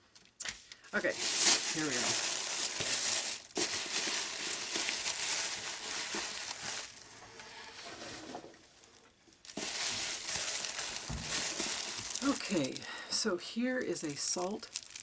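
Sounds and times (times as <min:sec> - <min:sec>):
paper packaging rustling: 0:00.4 - 0:15.0.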